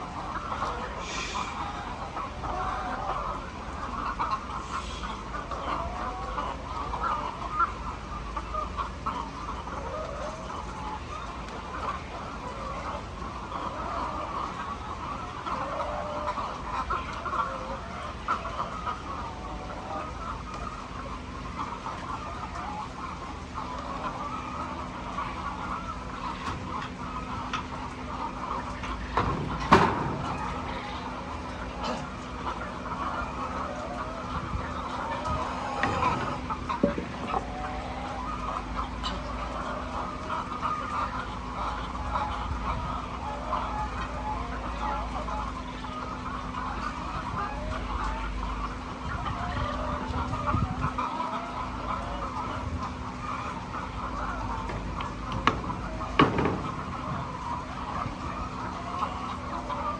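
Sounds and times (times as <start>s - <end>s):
hens clucking: 0.0s - 59.9s.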